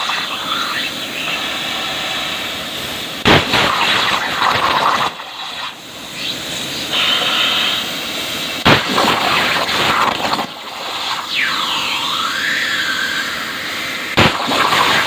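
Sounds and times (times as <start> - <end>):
plasma torch arc hissing: 0.0 - 12.1.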